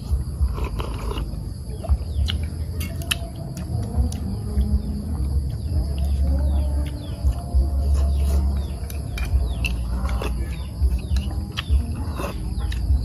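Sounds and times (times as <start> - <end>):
chewing: 0.0 - 13.0
low rumble: 0.0 - 13.0
birds chirping: 1.0 - 3.4, 4.4 - 13.0.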